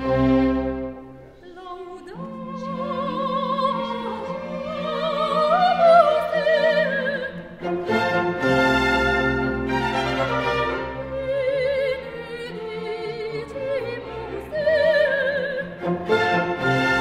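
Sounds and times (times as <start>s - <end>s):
held string accompaniment: 0.0s - 17.0s
classical solo singing: 1.4s - 8.8s, 10.0s - 17.0s.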